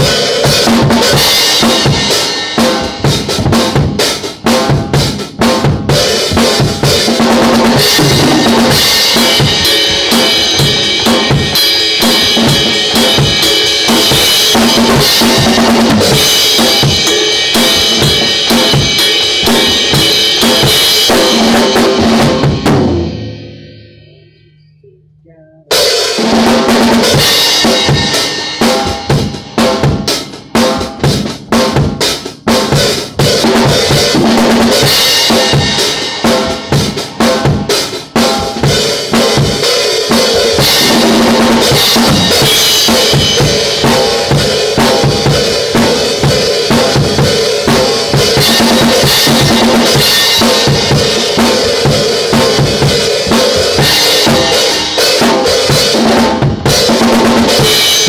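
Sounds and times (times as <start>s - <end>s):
bass drum: 0.0s - 58.0s.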